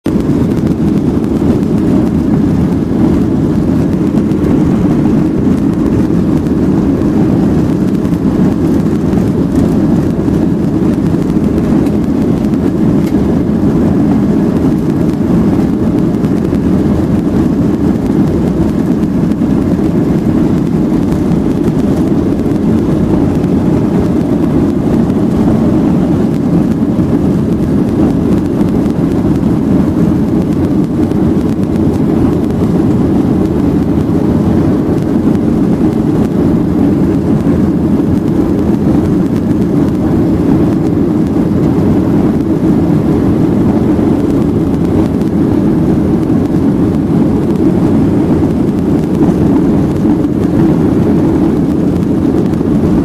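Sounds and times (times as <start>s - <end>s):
jet engines roaring at takeoff: 0.0s - 53.0s.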